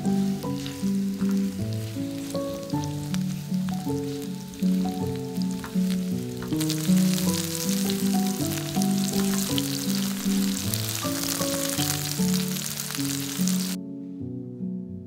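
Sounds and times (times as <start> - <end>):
vegetables sizzling in oil: 0.0 - 13.8
gentle background music: 0.0 - 15.0.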